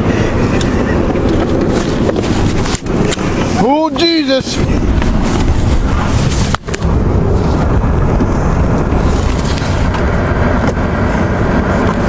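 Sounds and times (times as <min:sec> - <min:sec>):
car rumbling on the move: 0:00.0 - 0:12.0
wind noise on microphone: 0:00.0 - 0:12.0.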